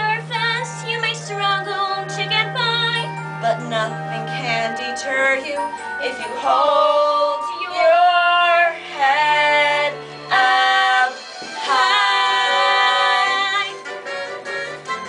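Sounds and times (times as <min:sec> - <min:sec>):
young voices singing: 0:00.0 - 0:13.8
recorded backing track: 0:00.0 - 0:15.0.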